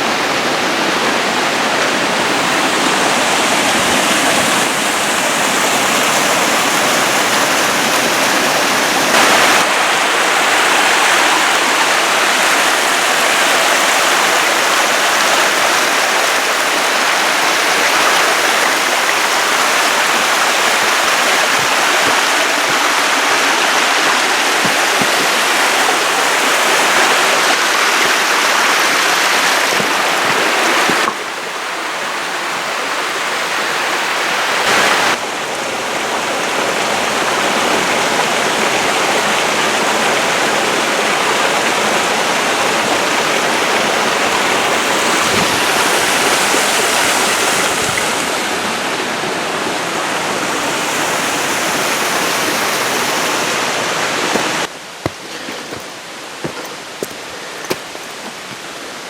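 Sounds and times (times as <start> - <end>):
creek rushing over rocks: 0.0 - 59.0.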